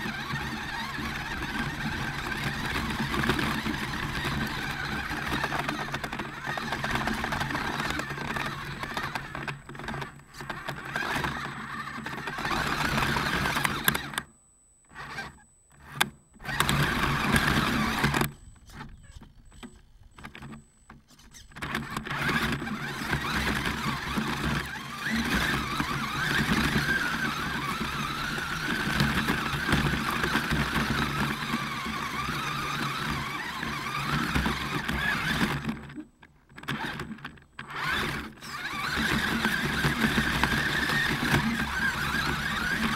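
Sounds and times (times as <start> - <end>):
electric motor and gears running: 0.0 - 42.9.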